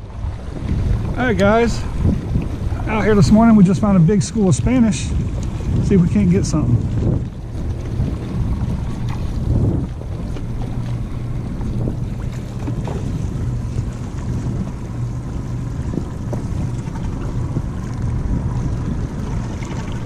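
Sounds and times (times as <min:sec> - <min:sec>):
boat engine humming: 0:00.0 - 0:20.0
wind noise on microphone: 0:00.0 - 0:20.0.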